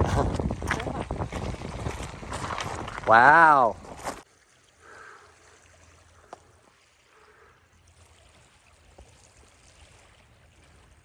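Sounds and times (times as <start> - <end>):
lake water lapping at shore: 0.0 - 11.0.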